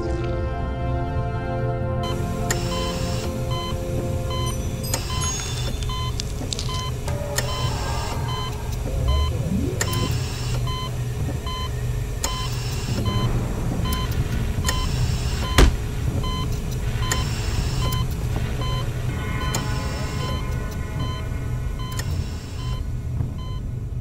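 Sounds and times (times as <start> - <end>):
low hum: 0.0 - 24.0
heart monitor beeping: 2.0 - 23.7.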